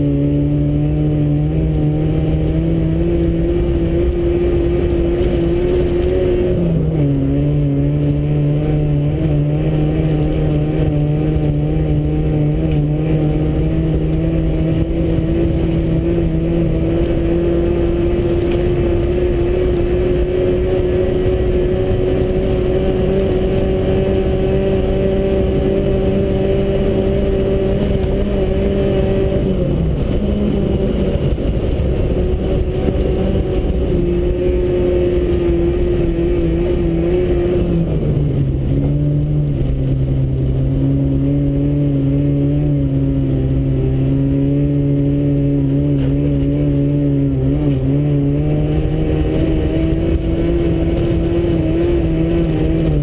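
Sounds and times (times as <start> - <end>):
car engine revving high: 0.0 - 53.0
tires rumbling on ice: 0.0 - 53.0.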